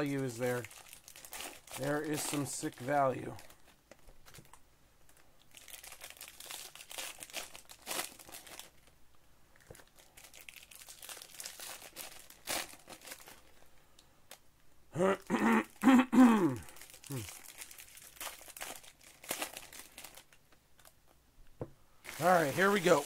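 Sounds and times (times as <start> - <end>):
plastic wrappers crinkling: 0.0 - 14.4, 16.6 - 21.1, 22.0 - 23.0.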